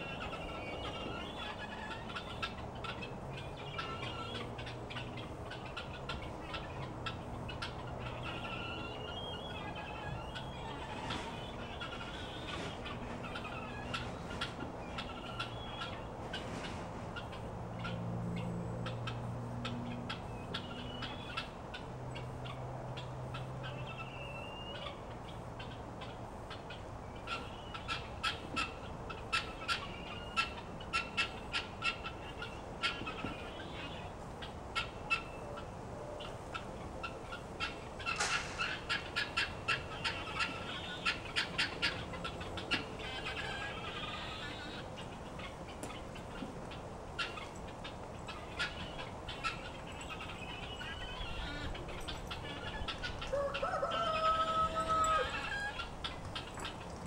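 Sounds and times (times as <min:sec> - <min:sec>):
guinea fowl calling: 0:00.0 - 0:57.0.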